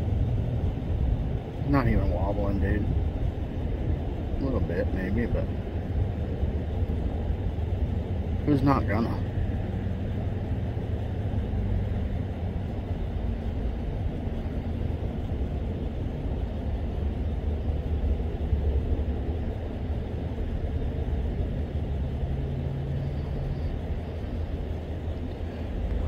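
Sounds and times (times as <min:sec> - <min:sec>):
idling vehicle engines: 0:00.0 - 0:26.0
road traffic: 0:00.0 - 0:26.0.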